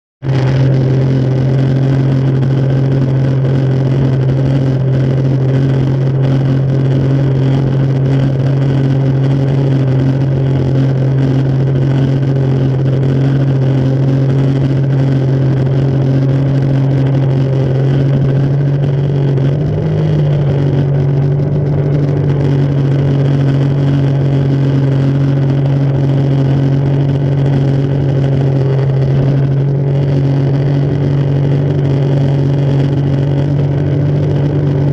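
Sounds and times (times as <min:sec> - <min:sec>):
jet ski engine running: 0:00.2 - 0:34.9.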